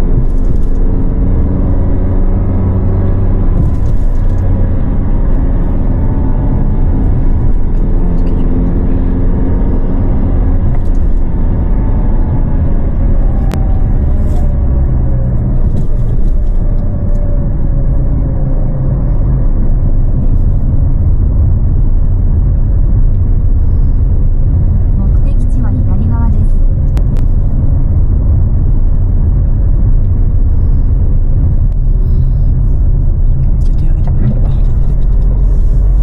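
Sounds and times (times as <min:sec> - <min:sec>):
car cabin road rumble: 0:00.0 - 0:36.0.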